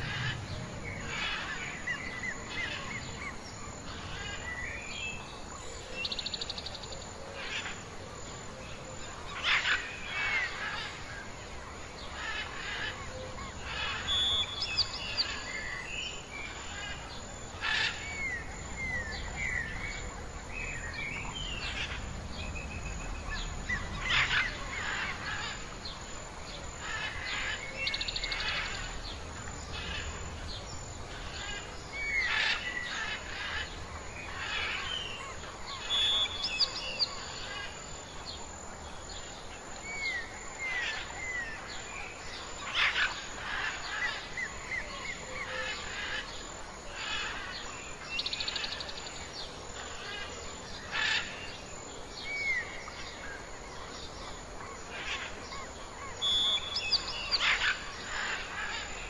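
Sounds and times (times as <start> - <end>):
wild birds chirping: 0.0 - 59.0.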